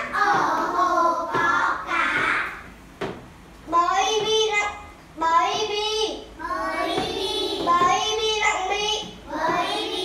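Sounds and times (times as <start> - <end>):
children chanting syllables: 0.0 - 2.7, 3.7 - 10.0.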